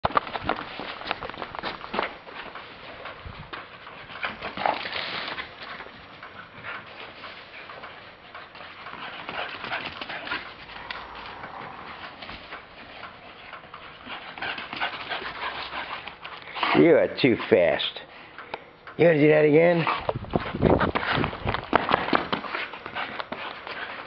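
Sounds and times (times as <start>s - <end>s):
dog paws on concrete: 0.0s - 24.0s.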